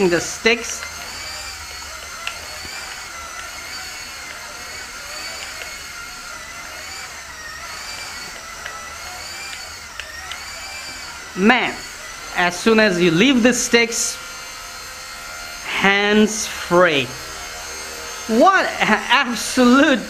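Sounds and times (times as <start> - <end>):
toy helicopter rotor whining: 0.0 - 20.0.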